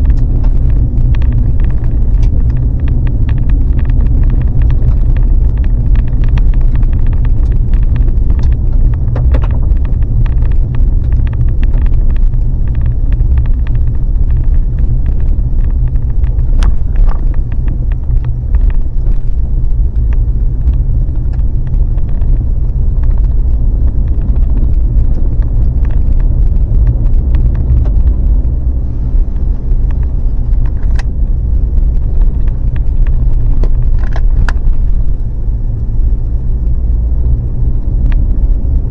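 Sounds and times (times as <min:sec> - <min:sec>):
small clicks and rattles: 0:00.0 - 0:38.9
vehicle road and engine rumble: 0:00.0 - 0:38.9.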